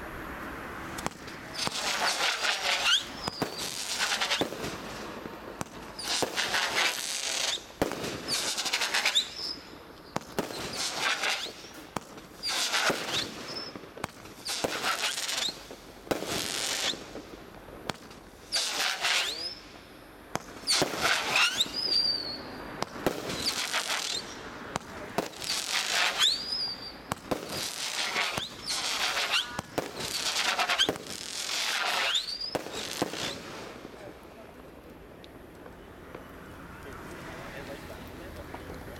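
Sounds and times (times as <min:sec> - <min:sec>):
crackling firework star bursts: 0:00.8 - 0:38.7
firework launch pops: 0:00.9 - 0:19.6, 0:20.3 - 0:34.1.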